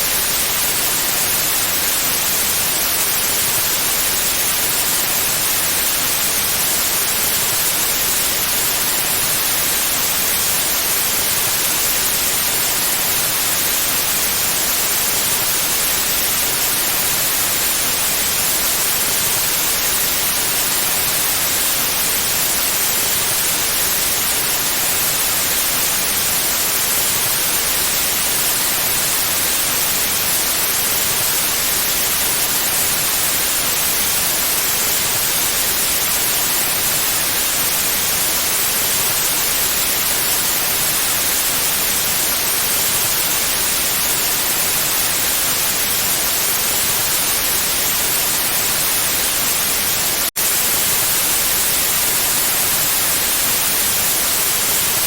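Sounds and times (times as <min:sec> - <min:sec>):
loud white noise hiss: 0:00.0 - 0:55.0.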